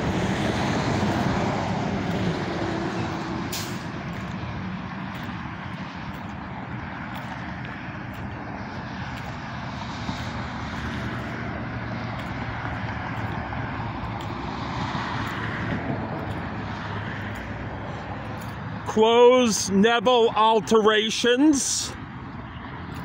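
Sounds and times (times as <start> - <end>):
road traffic rushing past: 0.0 - 23.0.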